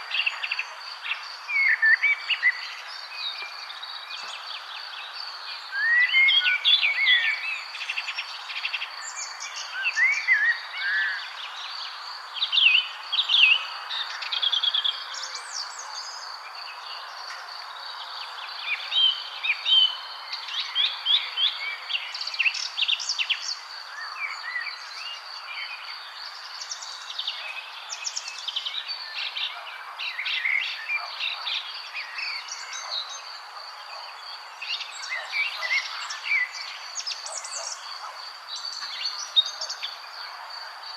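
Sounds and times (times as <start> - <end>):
songbirds singing and chirping: 0.0 - 40.9.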